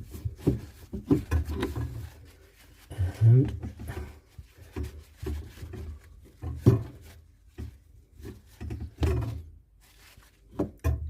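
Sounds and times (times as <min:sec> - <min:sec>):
hands rubbing a copper pipe: 0:00.0 - 0:10.8.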